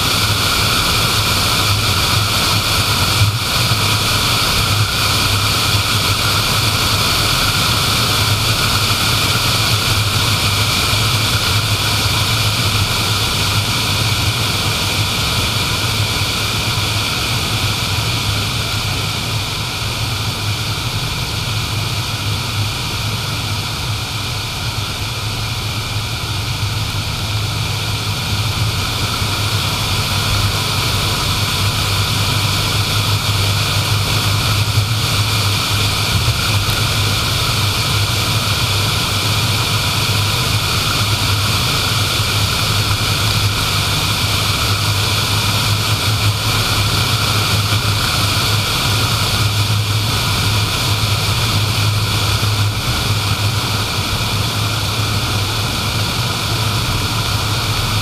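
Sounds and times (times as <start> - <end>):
low engine drone: 0.0 - 58.0.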